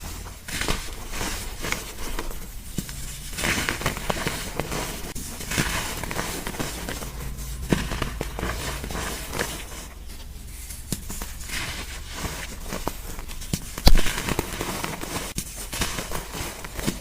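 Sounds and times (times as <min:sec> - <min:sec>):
chalk crunching by hand: 0:00.0 - 0:17.0.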